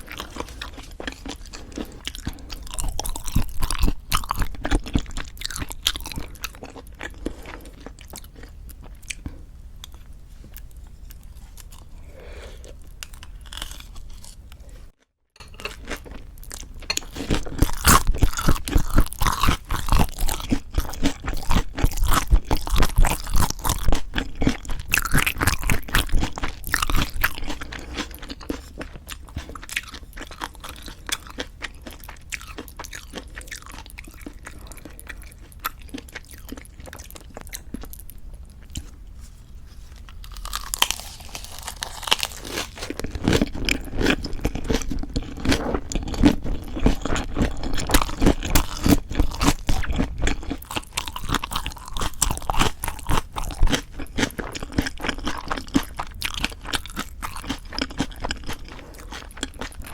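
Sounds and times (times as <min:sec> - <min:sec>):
close chewing and crunching: 0:00.0 - 0:59.9.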